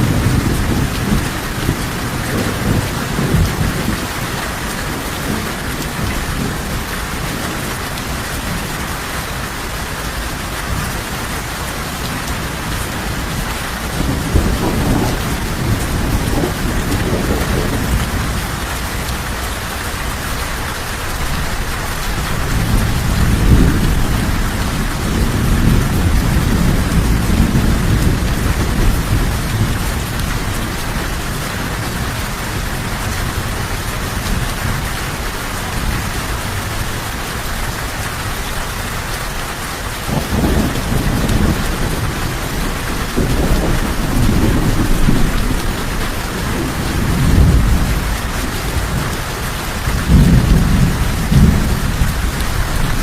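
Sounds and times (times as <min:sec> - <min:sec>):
rolling thunder: 0:00.0 - 0:08.7, 0:11.8 - 0:20.2, 0:21.2 - 0:37.0, 0:40.0 - 0:53.0
steady rain: 0:00.0 - 0:53.0.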